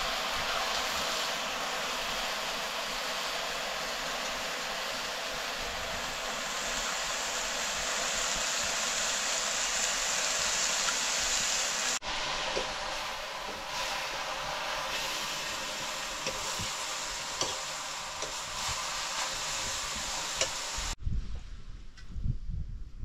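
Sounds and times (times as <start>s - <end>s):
food sizzling in hot pan: 0.0s - 21.0s.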